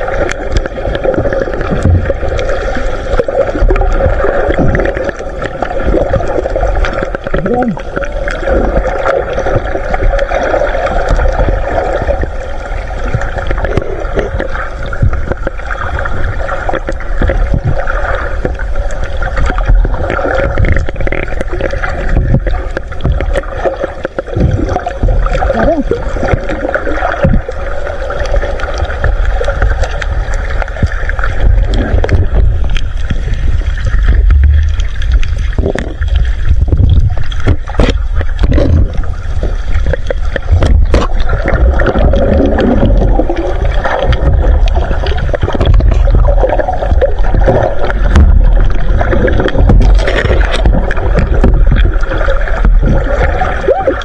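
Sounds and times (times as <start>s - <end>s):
gurgling water: 0.0s - 54.0s
scattered crackles: 0.0s - 54.0s
underwater low rumble: 0.0s - 54.0s.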